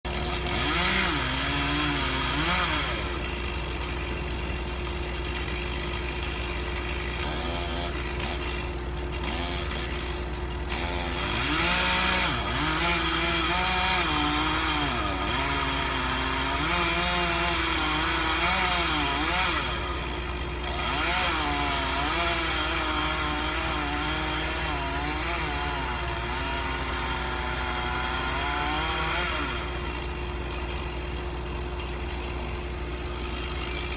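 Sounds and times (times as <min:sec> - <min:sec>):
chainsaw engine cutting: 0:00.0 - 0:33.9
second engine steady: 0:00.0 - 0:33.9.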